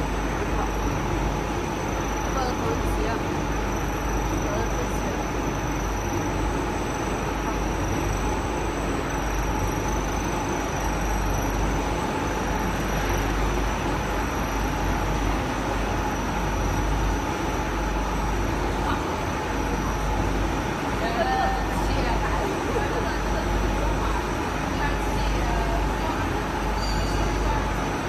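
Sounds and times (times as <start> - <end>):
high machine whines: 0.0 - 28.0
motors and fans whirring: 0.0 - 28.0.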